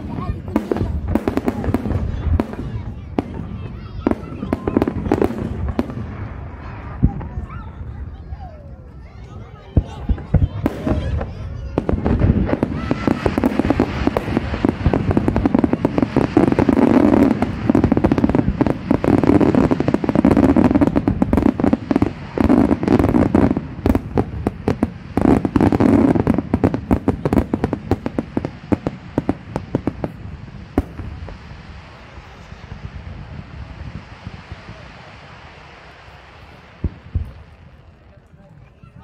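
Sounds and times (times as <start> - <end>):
fireworks bangs and crackling: 0.0 - 39.0.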